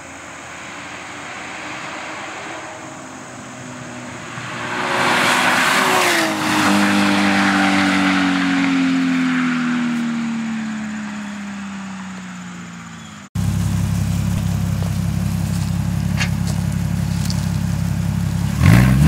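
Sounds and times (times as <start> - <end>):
vehicle engine and tyre noise: 0.0 - 19.0.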